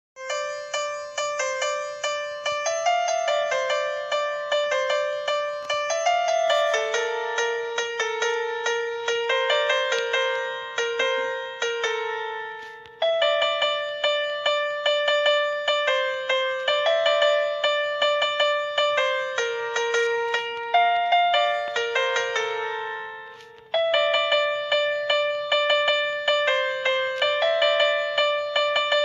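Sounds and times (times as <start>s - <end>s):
keyboard ringtone melody: 0.2s - 29.0s.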